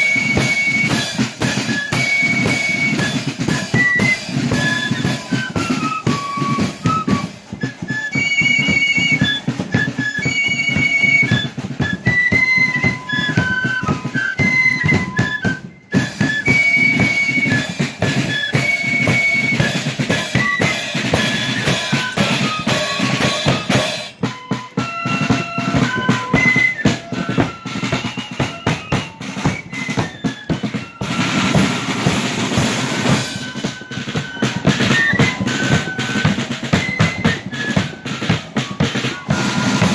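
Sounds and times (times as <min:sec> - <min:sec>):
flutes playing high melody: 0:00.0 - 0:39.9
snare and bass drumming: 0:00.0 - 0:39.9.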